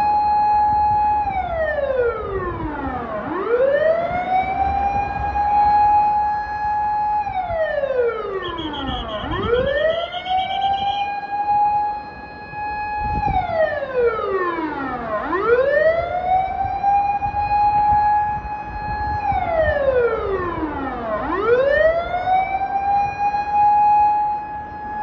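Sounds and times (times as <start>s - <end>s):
vehicle siren wailing: 0.0s - 25.0s.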